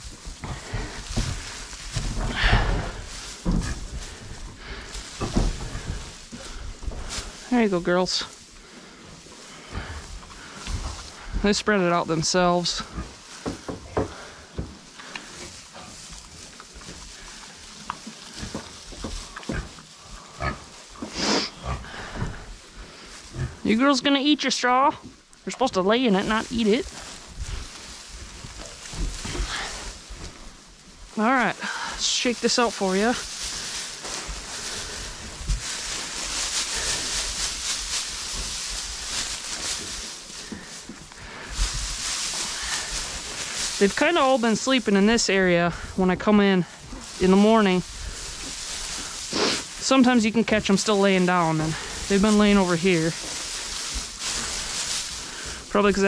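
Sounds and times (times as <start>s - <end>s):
pigs grunting and snuffling: 0.0s - 24.2s, 25.1s - 56.0s
straw rustling: 0.0s - 56.0s.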